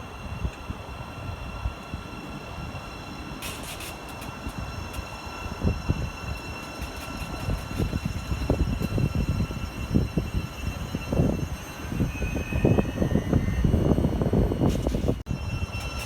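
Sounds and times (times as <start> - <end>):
thin steady whine: 0.0 - 16.0
train rumble: 0.0 - 16.0.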